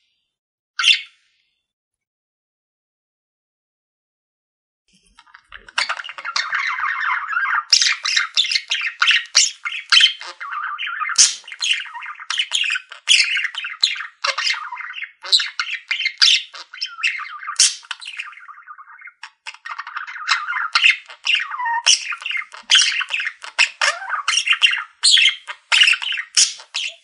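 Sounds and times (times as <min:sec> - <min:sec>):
budgerigars chattering: 0:05.2 - 0:27.0.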